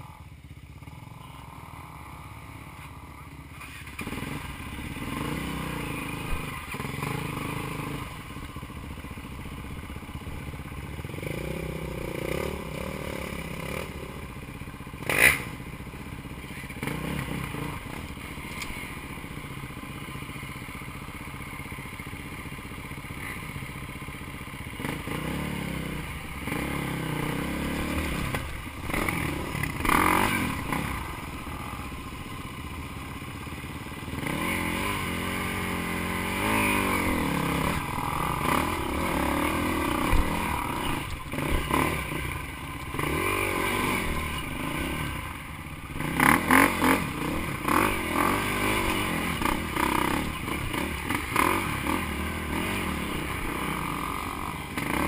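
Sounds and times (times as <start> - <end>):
dirt bike engine revving: 3.6 - 22.5, 23.1 - 55.0.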